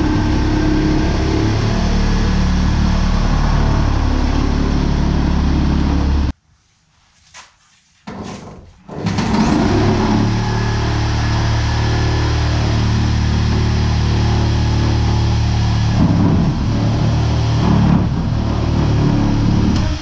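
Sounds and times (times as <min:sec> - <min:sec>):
machine hum with high whine: 0:00.0 - 0:06.3, 0:09.2 - 0:20.0.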